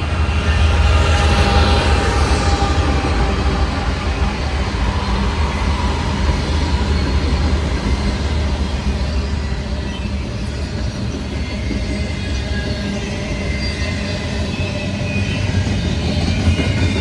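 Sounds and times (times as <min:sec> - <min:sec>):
freight train passing: 0:00.0 - 0:17.0
rolling rail noise: 0:00.0 - 0:17.0.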